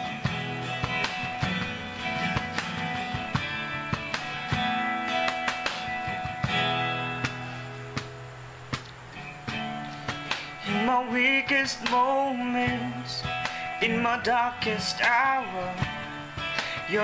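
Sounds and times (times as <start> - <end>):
strummed guitar: 0.0 - 17.0.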